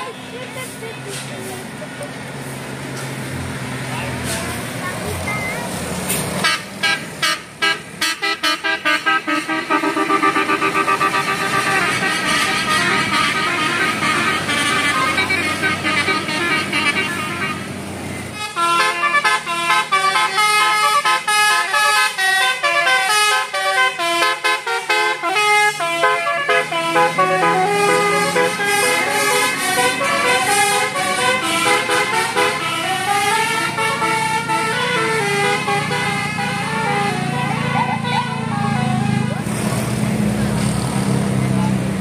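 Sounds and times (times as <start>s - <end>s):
bus multi-tone horn melody: 5.5s - 40.0s.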